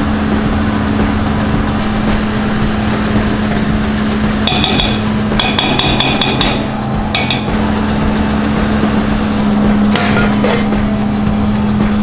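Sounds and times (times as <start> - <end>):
cotton candy machine humming: 0.0 - 12.0.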